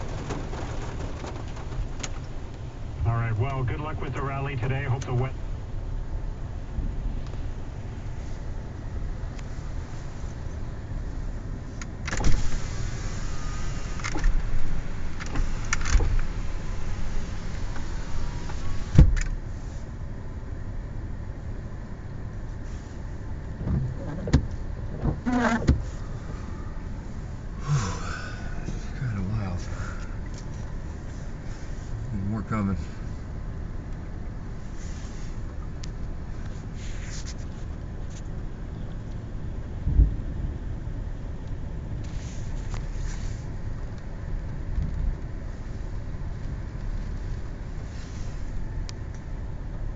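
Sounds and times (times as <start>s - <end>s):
low rumble inside truck cab: 0.0s - 49.9s.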